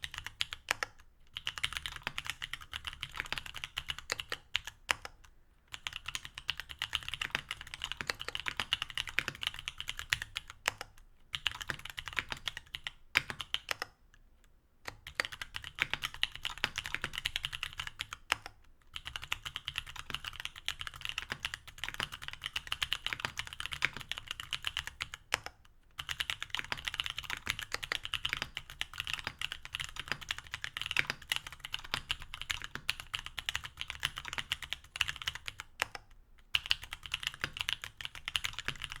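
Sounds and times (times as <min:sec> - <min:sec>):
fast typing on mechanical keyboard: 0:00.0 - 0:13.9, 0:14.9 - 0:36.0, 0:36.6 - 0:39.0.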